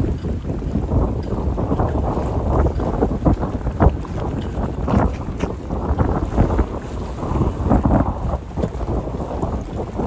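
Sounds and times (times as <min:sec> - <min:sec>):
waves slapping and splashing: 0:00.0 - 0:10.0
wind buffeting microphone: 0:00.0 - 0:10.0.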